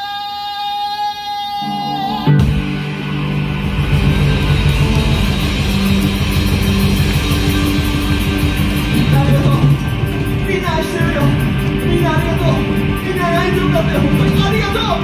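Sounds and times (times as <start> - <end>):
drums: 0.0 - 15.0
electric guitar: 1.5 - 15.0
rock band playing loud: 1.5 - 15.0.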